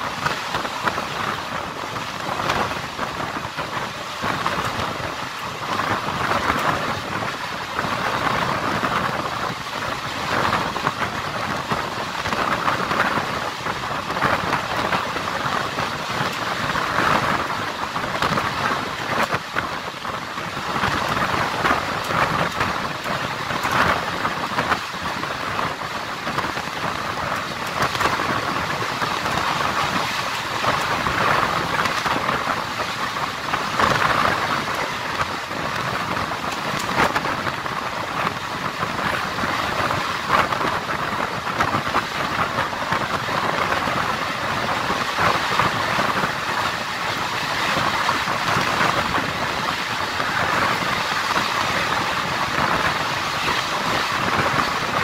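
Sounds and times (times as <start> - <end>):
train coach and track clatter: 0.0 - 55.0
train wheels rumbling on rails: 0.0 - 55.0.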